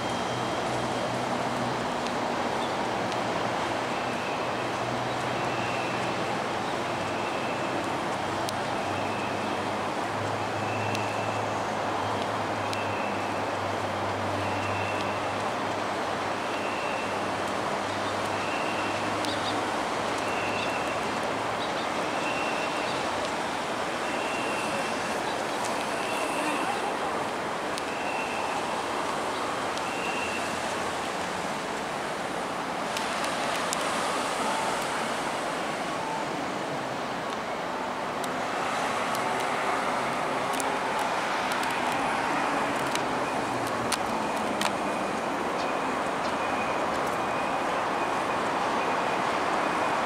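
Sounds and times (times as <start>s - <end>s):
traffic on elevated road: 0.0s - 50.0s.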